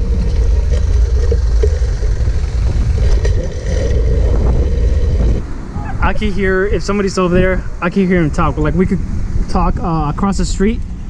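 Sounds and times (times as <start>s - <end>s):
road noise rumble: 0.0s - 11.0s.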